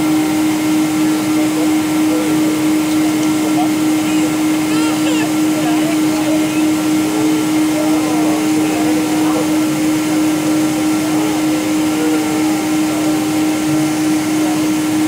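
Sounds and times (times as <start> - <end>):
jet engine roar in cabin: 0.0 - 15.0
strong steady hum: 0.0 - 15.0.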